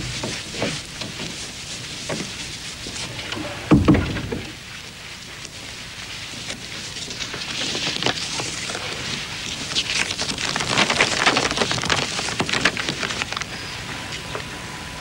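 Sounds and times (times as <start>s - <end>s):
paper crinkling and rustling: 0.0s - 14.6s.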